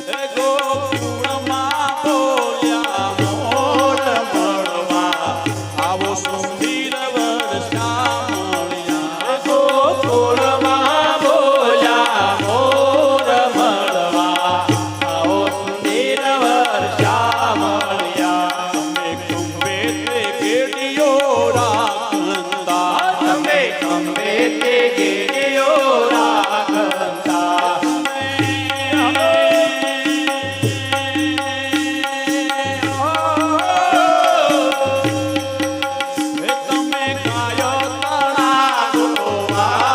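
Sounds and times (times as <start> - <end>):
drum percussion: 0.0 - 39.9.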